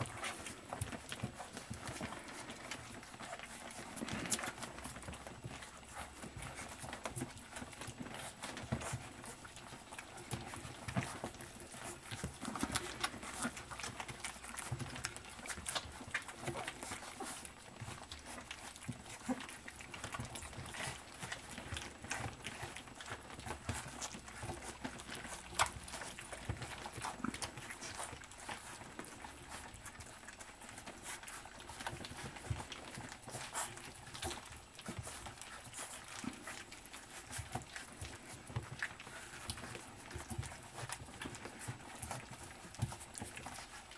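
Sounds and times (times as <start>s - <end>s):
puppies lapping and chewing: 0.0s - 43.9s.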